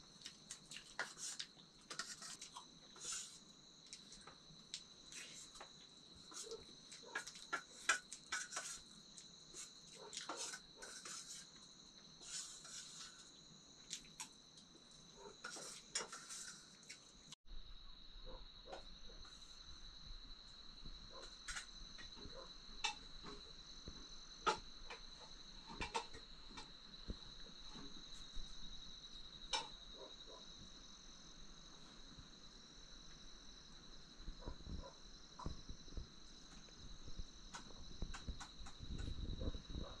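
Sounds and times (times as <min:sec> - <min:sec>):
high-pitched insect trill: 0:00.0 - 0:40.0.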